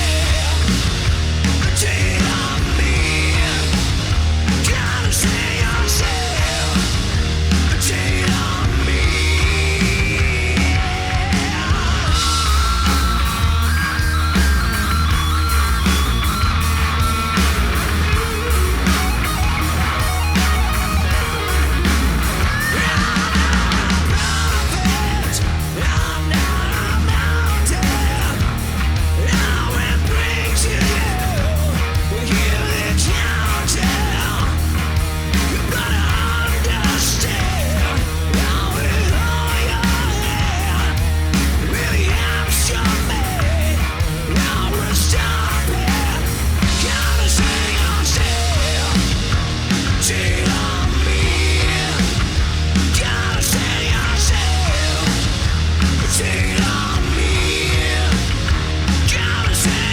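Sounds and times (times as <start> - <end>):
bass guitar: 0.0 - 59.9
drums: 0.0 - 59.9
electric guitar: 0.0 - 59.9
rock band playing live: 0.0 - 59.9.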